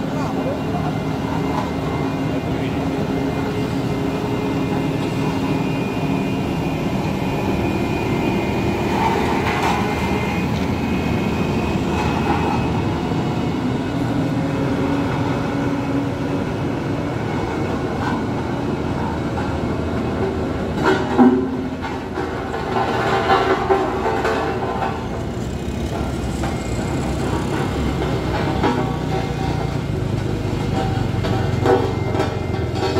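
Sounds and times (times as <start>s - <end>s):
truck diesel engine running: 0.0s - 32.9s.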